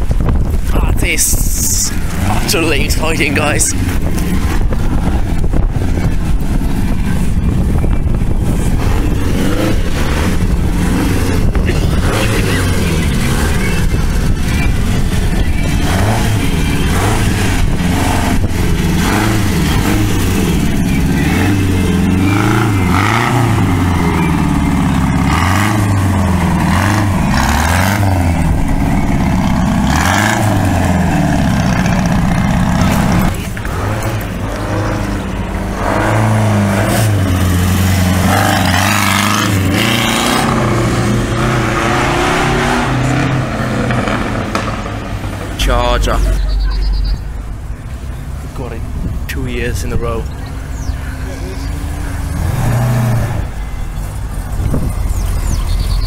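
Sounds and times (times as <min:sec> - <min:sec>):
racing car engine revving: 0:00.5 - 0:56.0.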